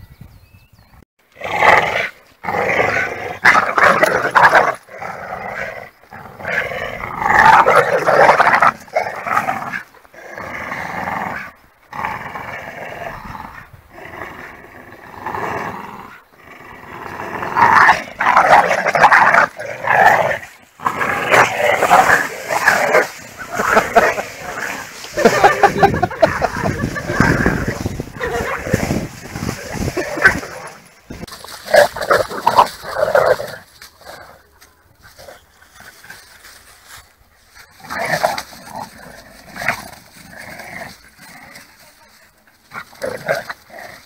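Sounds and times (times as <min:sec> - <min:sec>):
dogs growling: 0:01.4 - 0:41.8, 0:42.6 - 0:44.0.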